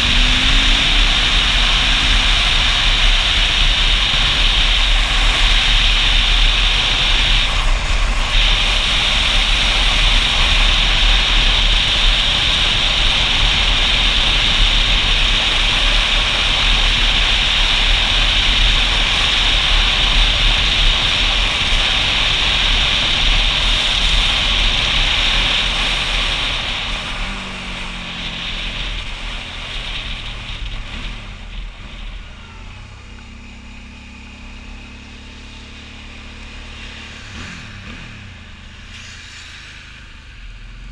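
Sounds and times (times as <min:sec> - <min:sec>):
motorcycle engine running: 0:00.0 - 0:40.9
motorcycle wind and road noise: 0:00.0 - 0:40.9.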